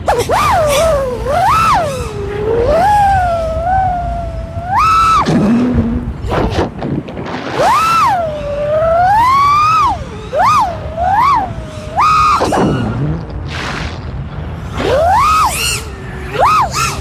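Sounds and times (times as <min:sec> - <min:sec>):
drone motors and propellers whining: 0:00.0 - 0:17.0.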